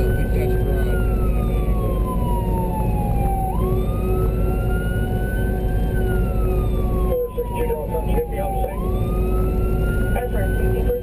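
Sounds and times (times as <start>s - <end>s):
emergency siren wailing: 0.0s - 11.0s
vehicle driving rumble: 0.0s - 11.0s.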